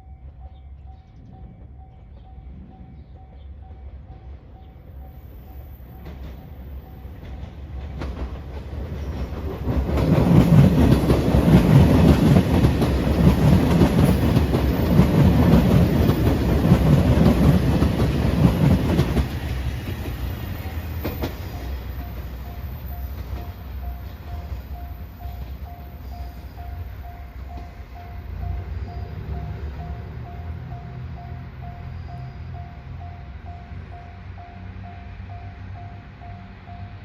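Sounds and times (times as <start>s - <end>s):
diesel train passing: 0.0s - 37.0s.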